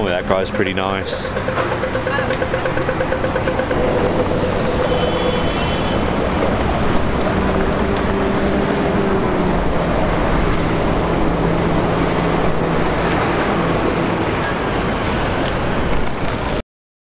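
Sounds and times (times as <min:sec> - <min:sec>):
city street traffic noise: 0:00.0 - 0:16.6
engine hum: 0:00.0 - 0:16.6.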